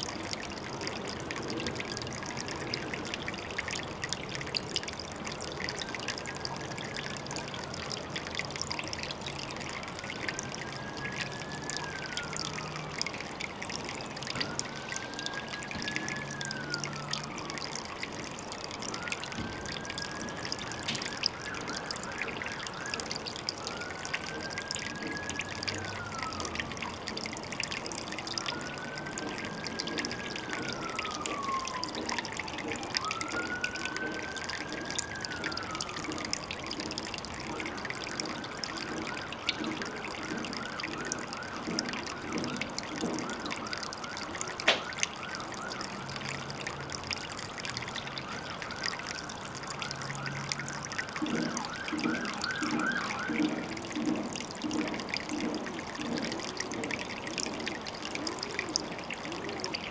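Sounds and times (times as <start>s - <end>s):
emergency siren wailing: 0.0s - 59.9s
water trickling: 0.0s - 59.9s.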